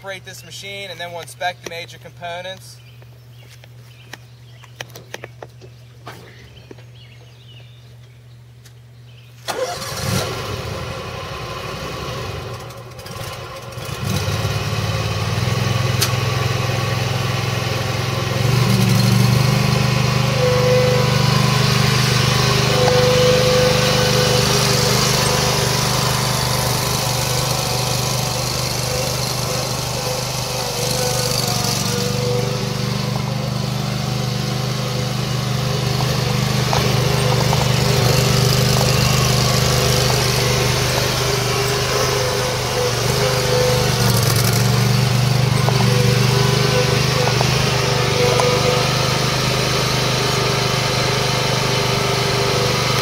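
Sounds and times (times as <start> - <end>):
mower engine running: 9.5 - 53.0.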